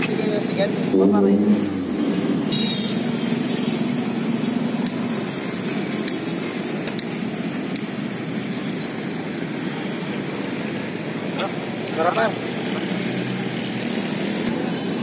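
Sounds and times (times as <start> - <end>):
engine hum: 0.0 - 15.0
road traffic noise: 0.0 - 15.0.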